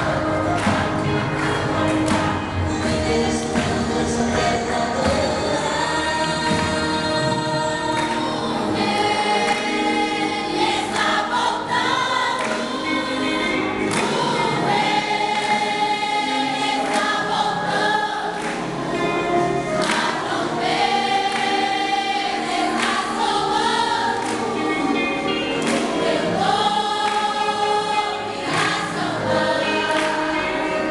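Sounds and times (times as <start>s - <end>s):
youth choir singing gospel: 0.0s - 30.9s.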